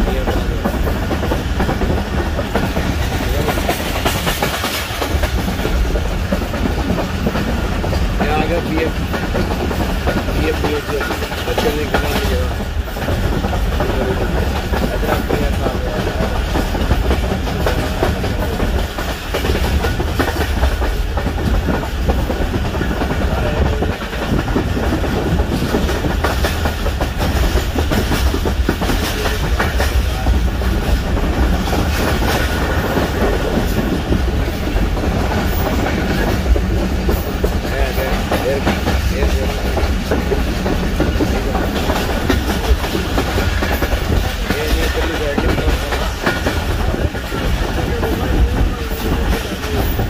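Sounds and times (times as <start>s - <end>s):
train coaches rumbling: 0.0s - 50.0s.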